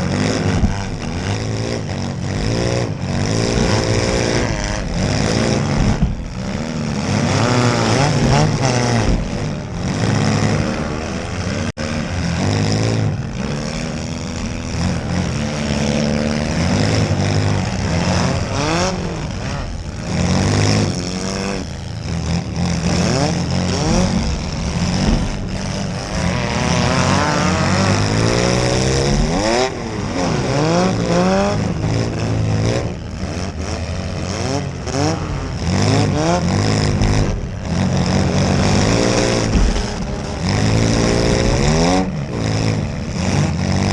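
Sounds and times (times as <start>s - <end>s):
car engines revving hard: 0.0s - 43.9s
low rumble of engines: 0.0s - 43.9s.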